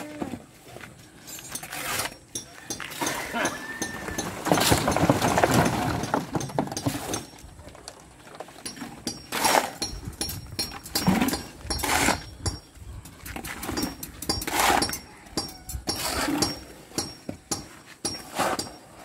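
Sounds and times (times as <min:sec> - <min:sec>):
shovels scraping concrete: 0:00.1 - 0:07.4, 0:08.4 - 0:12.6, 0:13.2 - 0:15.1, 0:15.8 - 0:19.0.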